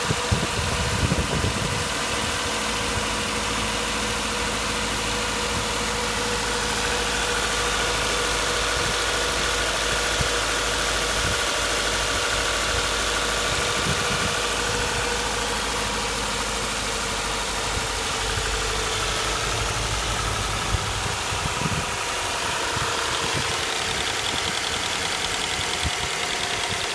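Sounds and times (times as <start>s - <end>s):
car engine idling: 0.0s - 26.9s
engine ticking knock: 0.0s - 26.9s.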